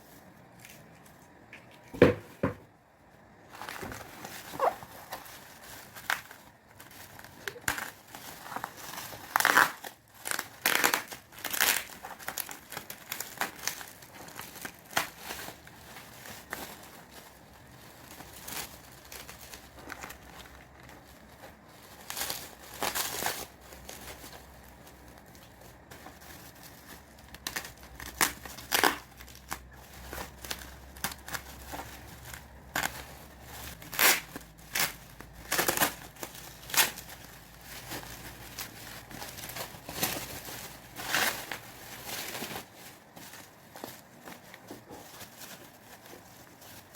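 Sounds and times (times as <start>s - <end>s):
packaging crinkling: 3.4s - 46.9s
packaging tearing: 3.6s - 46.9s.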